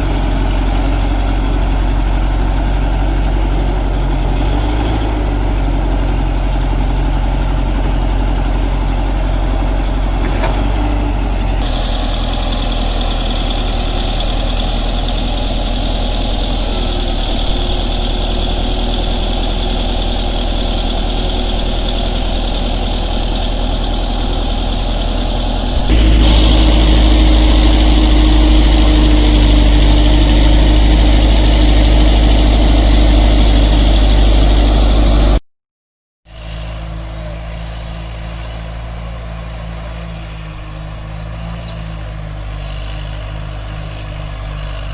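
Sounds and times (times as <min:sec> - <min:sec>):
diesel engine running: 0:00.0 - 0:35.4, 0:36.3 - 0:44.9.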